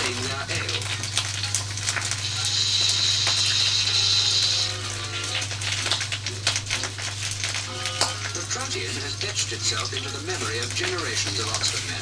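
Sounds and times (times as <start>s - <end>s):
hot poker sizzling in liquid: 0.0s - 12.0s
old film soundtrack hum and crackle: 0.0s - 12.0s.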